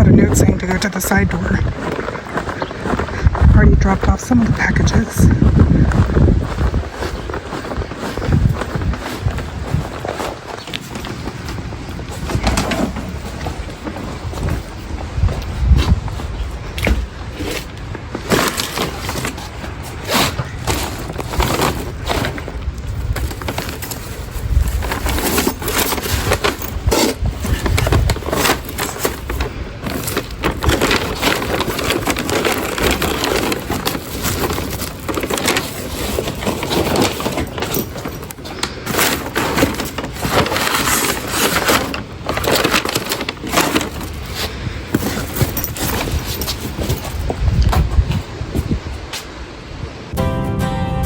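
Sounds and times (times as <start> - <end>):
plastic bags rustling: 4.8 - 48.6
packages knocking and thudding: 6.6 - 48.2.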